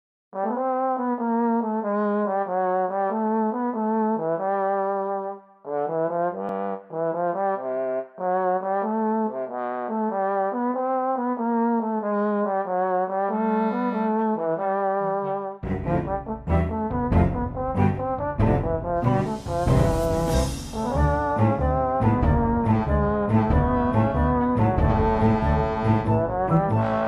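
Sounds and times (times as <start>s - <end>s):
brass theme tune: 0.4s - 27.0s.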